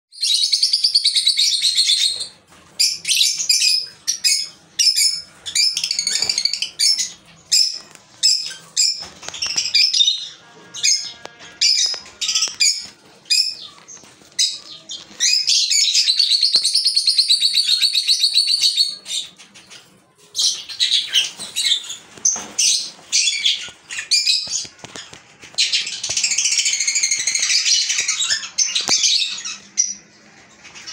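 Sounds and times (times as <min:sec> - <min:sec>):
lovebirds chirping: 0:00.2 - 0:30.9.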